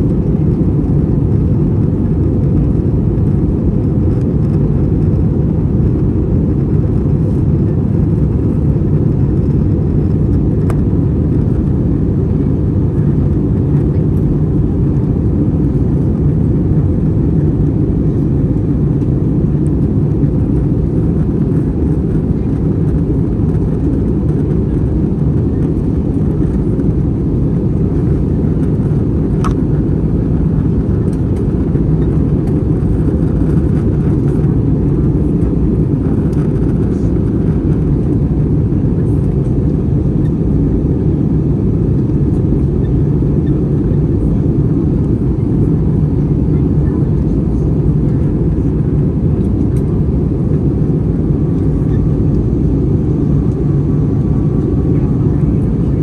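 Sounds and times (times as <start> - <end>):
aircraft cabin engine roar: 0.0 - 56.0.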